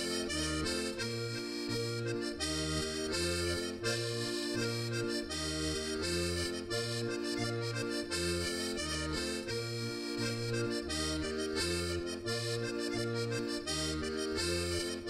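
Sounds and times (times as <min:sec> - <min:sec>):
button accordion folk tune: 0:00.0 - 0:15.0.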